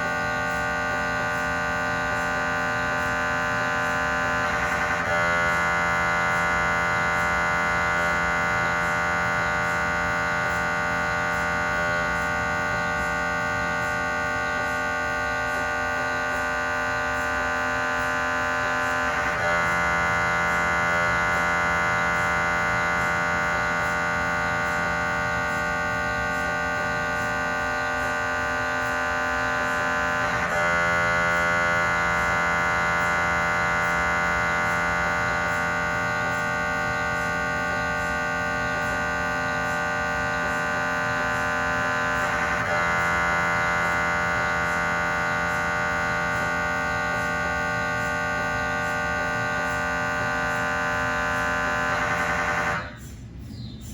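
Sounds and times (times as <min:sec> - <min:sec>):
mri scanner buzzing: 0:00.0 - 0:53.9.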